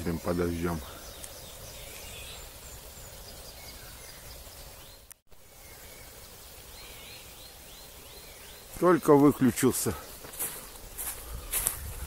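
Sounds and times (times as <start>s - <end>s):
songbird calls: 0.0s - 10.0s
steady forest hiss: 0.0s - 12.0s.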